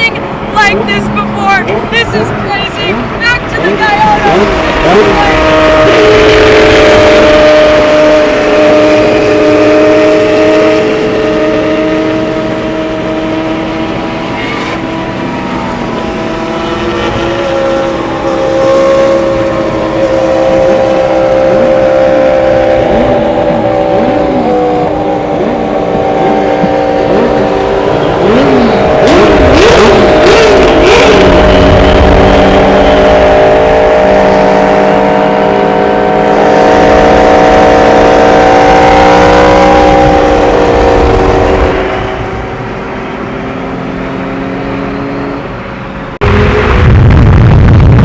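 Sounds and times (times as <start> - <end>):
supercar engines revving: 0.0 - 48.0.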